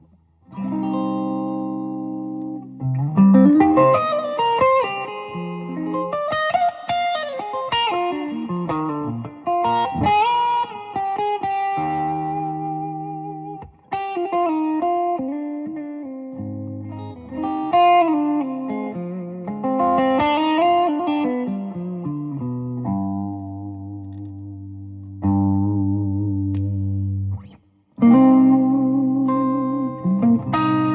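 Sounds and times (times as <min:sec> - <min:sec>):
electric guitar chords and lead: 0:00.0 - 0:30.9.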